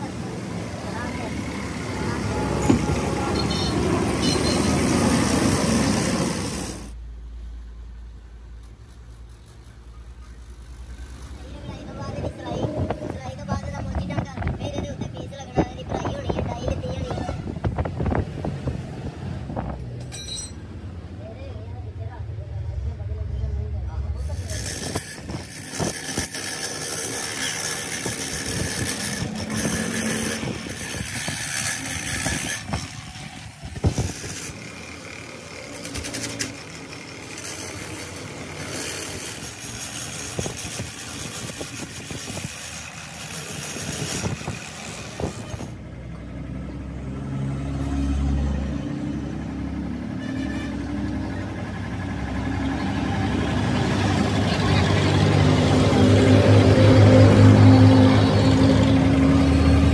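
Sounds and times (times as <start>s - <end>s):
steady background noise: 0.0s - 59.9s.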